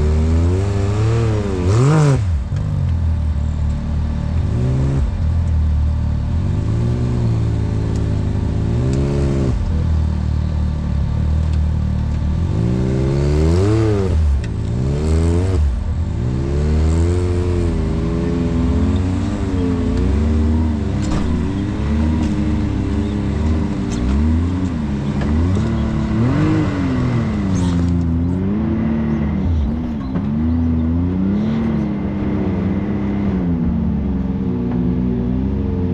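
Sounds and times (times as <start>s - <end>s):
utility vehicle engine revving: 0.0s - 35.9s.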